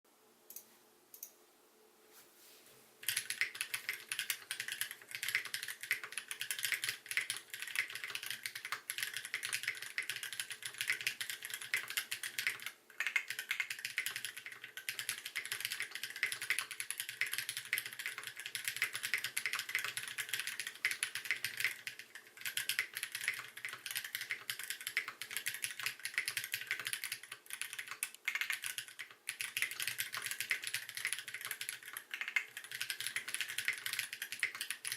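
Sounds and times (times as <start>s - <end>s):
fast mechanical keyboard typing: 3.0s - 34.9s.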